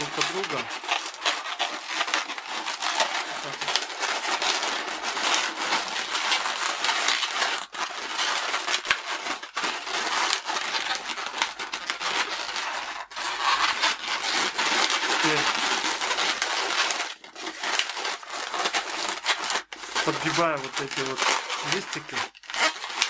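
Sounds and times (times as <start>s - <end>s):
balloons rubbing and twisting: 0.0s - 23.0s.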